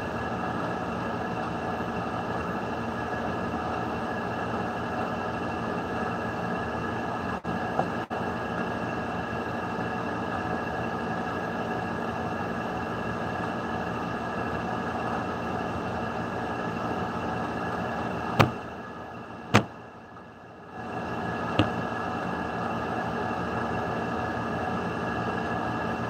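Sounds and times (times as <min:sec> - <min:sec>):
mechanical hum and hiss: 0:00.0 - 0:26.0.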